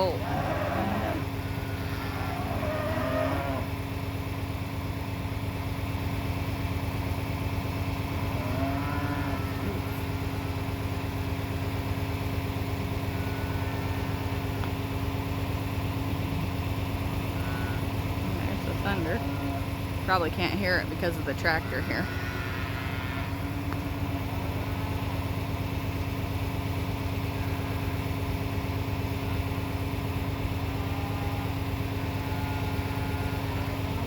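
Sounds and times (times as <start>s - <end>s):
tractor engine drone: 0.0s - 34.0s.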